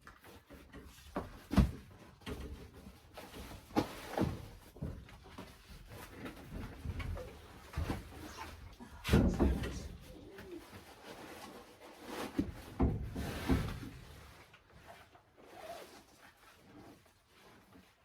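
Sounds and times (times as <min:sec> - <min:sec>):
pots scraping and shuffling: 0:00.0 - 0:18.0.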